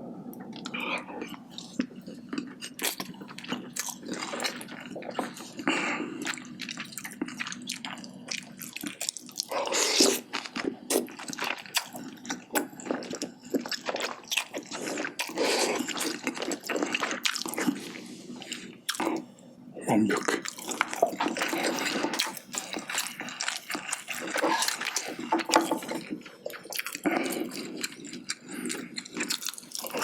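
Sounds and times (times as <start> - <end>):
close chewing with wet smacks: 0.5 - 19.2, 20.1 - 30.0.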